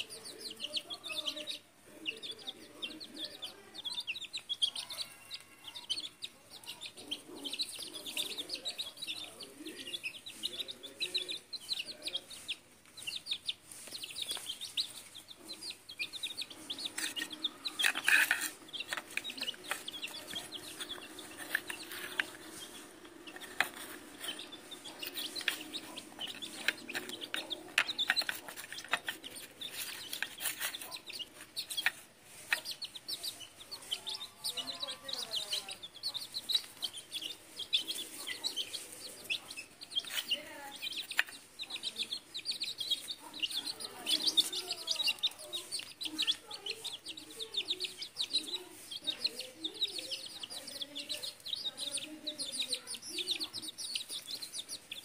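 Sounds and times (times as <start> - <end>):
beaks pecking on tiled floor: 0.0 - 55.0
chicks peeping: 0.0 - 55.0
hens clucking: 0.0 - 55.0.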